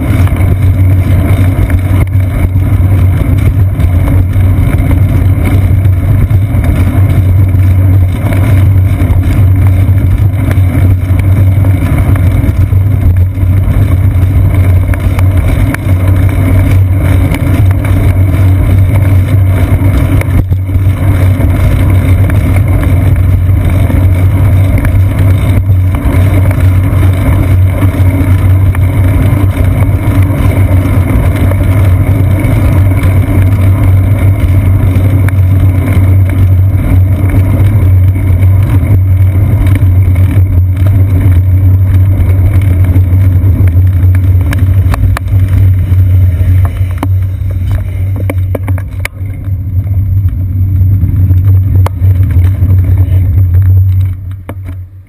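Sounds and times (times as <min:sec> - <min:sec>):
bicycle riding vibration: 0:00.0 - 0:55.0
wind drone: 0:00.0 - 0:55.0.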